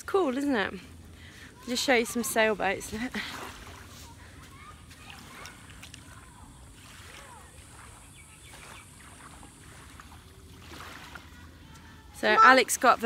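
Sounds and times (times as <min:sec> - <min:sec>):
water lapping at shore: 0:00.0 - 0:13.0.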